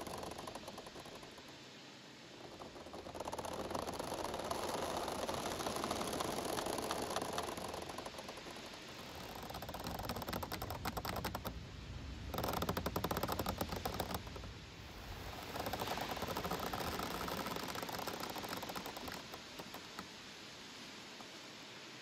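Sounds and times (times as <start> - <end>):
bamboo creaking and clicking: 0.0 - 20.3
rustle of wind and leaves: 0.0 - 22.0.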